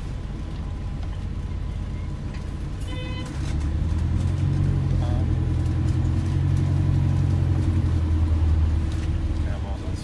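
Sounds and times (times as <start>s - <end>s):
bus drivetrain droning: 0.0s - 10.0s.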